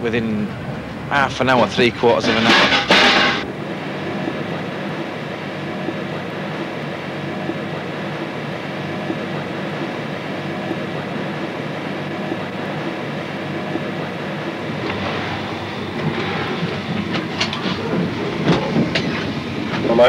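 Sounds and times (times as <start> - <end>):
train rumbling in motion: 0.0 - 20.0.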